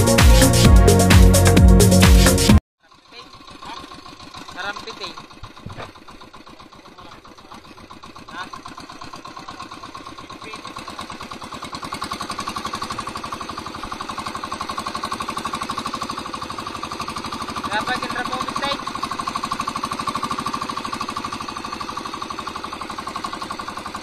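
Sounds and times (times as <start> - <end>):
boat engine puttering: 0.0 - 24.0.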